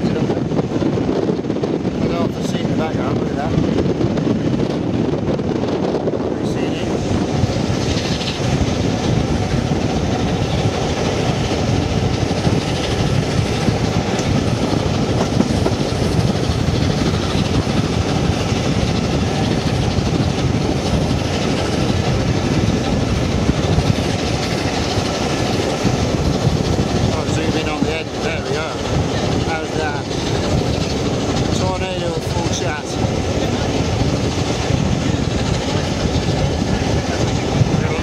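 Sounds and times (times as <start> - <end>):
train coaches rolling on rails: 0.0 - 38.0.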